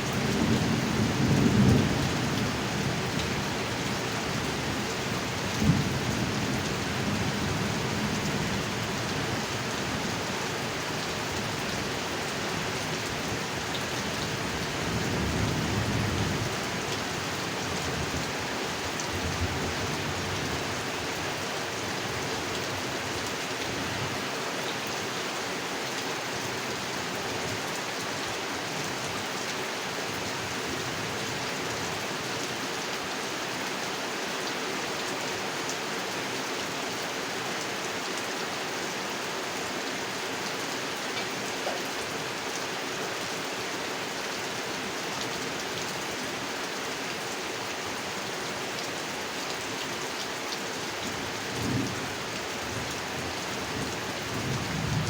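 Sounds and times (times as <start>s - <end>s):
heavy rain on a pond: 0.0s - 55.0s.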